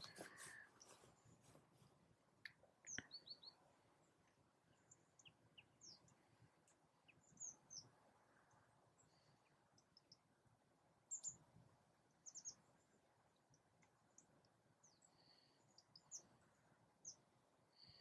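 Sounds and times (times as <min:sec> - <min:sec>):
small birds chirping: 0:00.0 - 0:01.5, 0:02.4 - 0:18.0.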